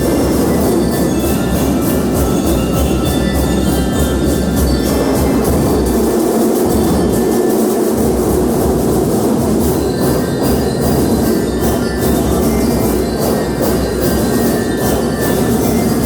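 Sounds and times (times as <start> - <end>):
drums and cymbals beat: 0.0 - 16.0
marching band playing loudly: 0.0 - 16.0
ringing metal tones: 0.0 - 16.0.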